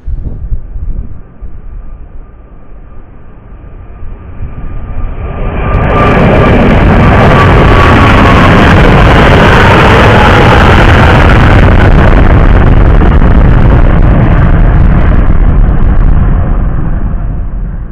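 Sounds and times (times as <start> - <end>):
jet engines at takeoff: 0.0 - 17.9.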